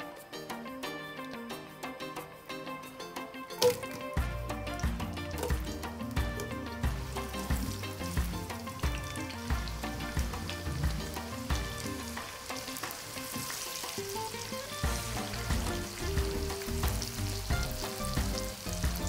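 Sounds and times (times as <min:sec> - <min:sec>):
onions sizzling in hot oil: 0:03.6 - 0:19.0.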